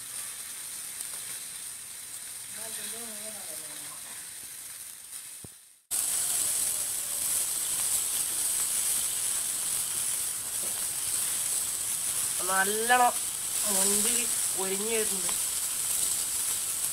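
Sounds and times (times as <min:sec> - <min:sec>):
fish frying in hot oil: 0:00.0 - 0:16.9.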